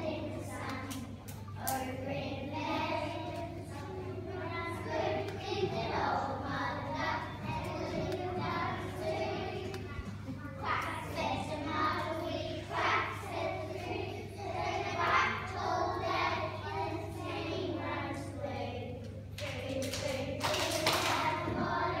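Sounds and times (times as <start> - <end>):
children's choir singing: 0.0 - 22.0
steady low hum: 0.0 - 22.0.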